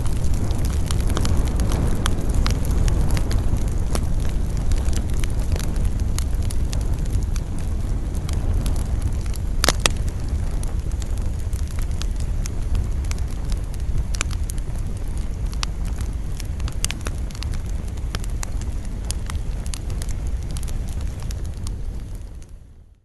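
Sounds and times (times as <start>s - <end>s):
campfire crackling and popping: 0.0s - 23.0s
low rumble of flames: 0.0s - 23.0s
wind: 0.0s - 23.0s.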